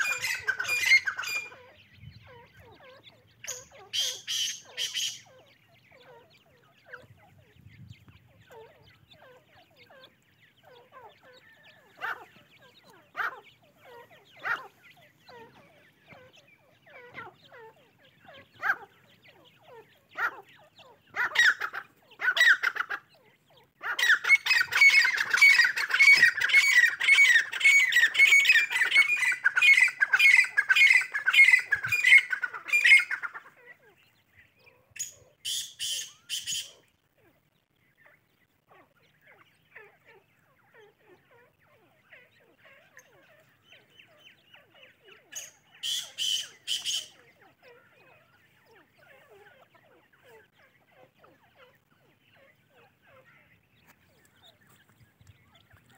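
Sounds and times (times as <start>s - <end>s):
francolin calling: 0.0s - 36.9s, 38.0s - 55.8s.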